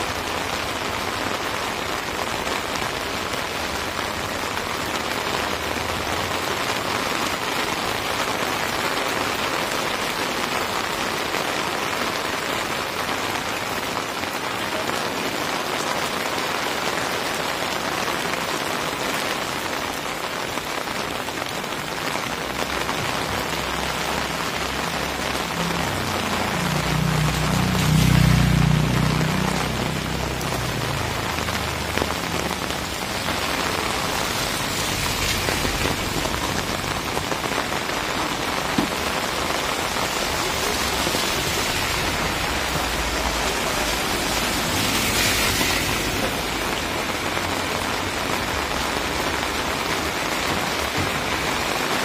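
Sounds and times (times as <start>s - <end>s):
light rain on wet pavement: 0.0s - 52.0s.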